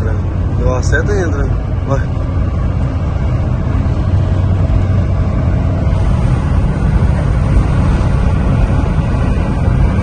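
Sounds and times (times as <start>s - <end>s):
road noise: 0.0s - 10.0s
truck diesel engine drone: 0.0s - 10.0s.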